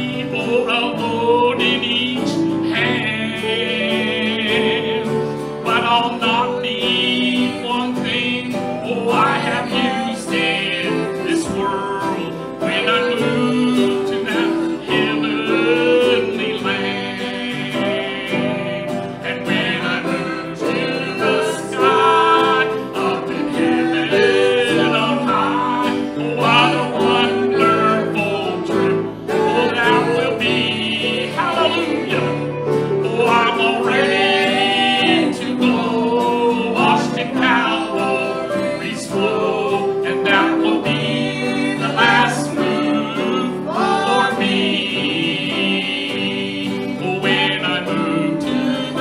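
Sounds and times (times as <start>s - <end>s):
acoustic guitar strumming: 0.0s - 49.0s
band accompanying: 0.0s - 49.0s
man singing lead: 0.0s - 49.0s.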